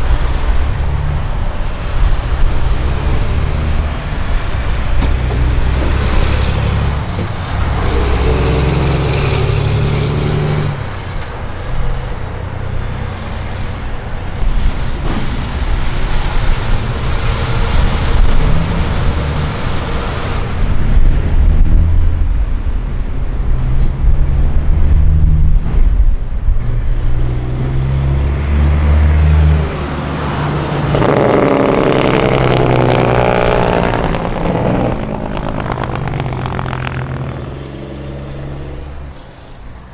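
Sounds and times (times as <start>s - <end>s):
trucks accelerating past: 0.0s - 39.9s.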